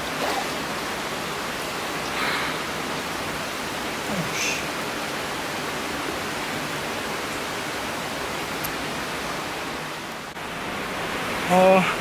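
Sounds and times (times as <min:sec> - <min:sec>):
water flowing: 0:00.0 - 0:12.0.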